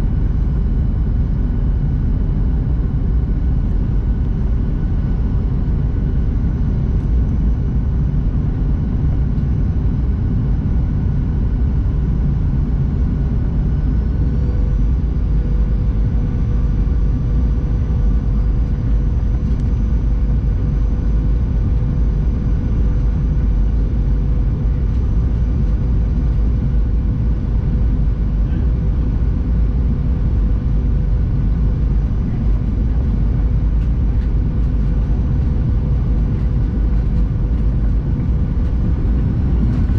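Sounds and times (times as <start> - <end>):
jet cabin engine rumble: 0.0 - 39.9
mid-pitched hum: 0.0 - 39.9.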